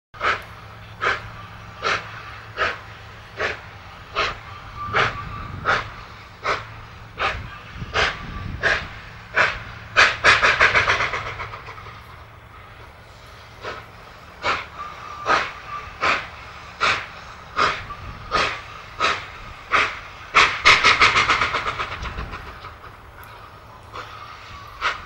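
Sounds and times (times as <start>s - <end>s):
steam locomotive exhaust chuffing: 0.1s - 25.0s.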